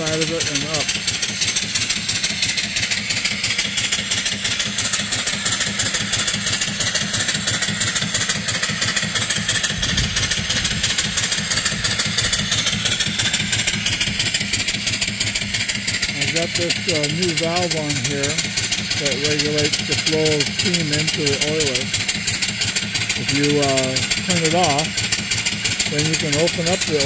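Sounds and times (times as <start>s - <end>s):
steam engine chuffing: 0.0s - 27.0s.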